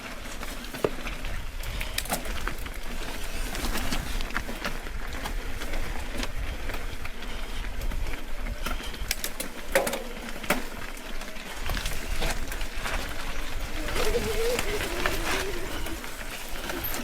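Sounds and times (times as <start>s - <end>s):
bike clicks and knocks: 0.0s - 17.0s
wind and tyre noise: 0.0s - 17.0s.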